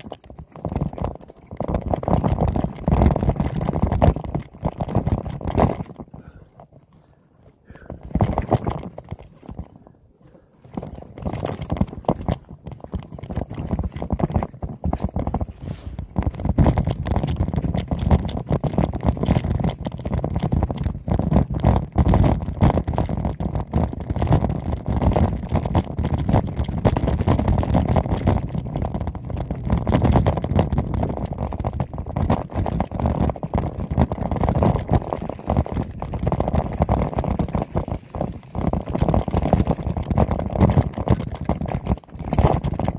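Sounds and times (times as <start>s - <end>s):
bike rattling over rough ground: 0.0s - 42.9s.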